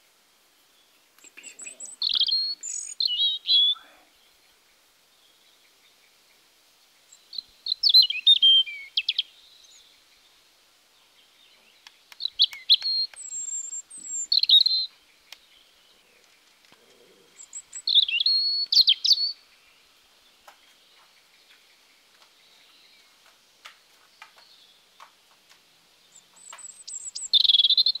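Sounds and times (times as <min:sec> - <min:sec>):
robin singing: 0:00.0 - 0:23.3, 0:25.9 - 0:28.0.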